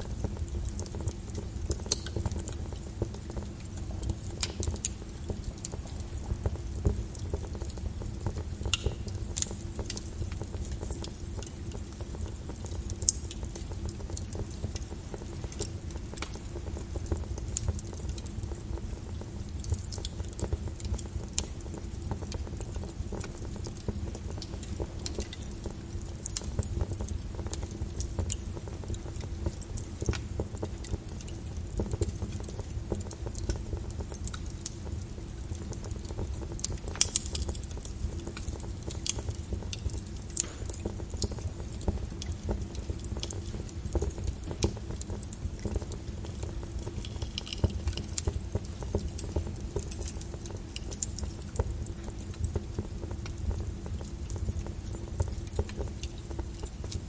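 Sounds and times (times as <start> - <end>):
fire rumbling: 0.0 - 57.0
wood fire crackling: 0.0 - 57.0.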